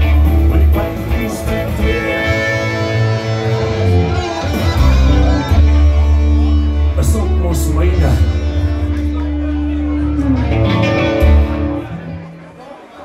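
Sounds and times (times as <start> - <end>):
electric guitars playing: 0.0 - 12.8.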